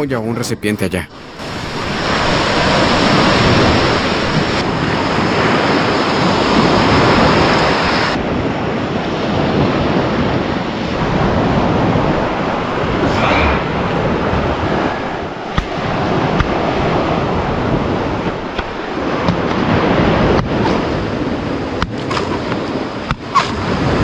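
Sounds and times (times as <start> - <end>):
waves washing onto beach: 1.1 - 13.0, 14.0 - 24.0
wind on microphone: 1.4 - 24.0.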